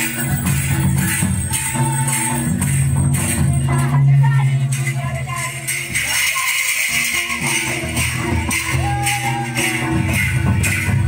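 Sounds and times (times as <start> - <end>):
drum beat: 0.0 - 11.0
jingling shaker percussion: 0.0 - 11.0.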